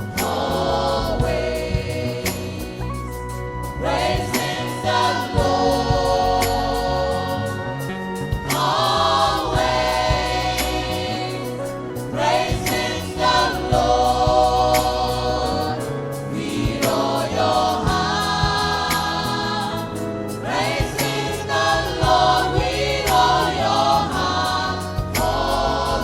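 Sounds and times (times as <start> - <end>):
gospel choir singing: 0.0 - 26.0
instrumental accompaniment with beat: 0.0 - 26.0.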